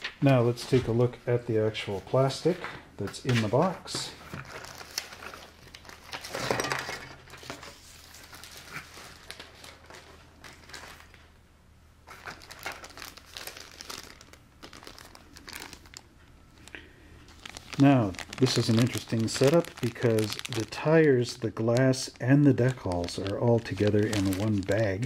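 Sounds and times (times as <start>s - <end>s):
plastic bags crinkling: 4.1s - 11.3s, 12.0s - 25.0s.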